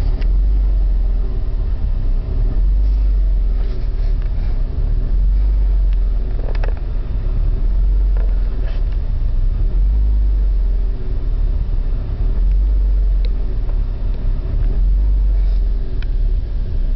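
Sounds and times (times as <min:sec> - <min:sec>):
car engine idling roughly: 0:00.0 - 0:16.9.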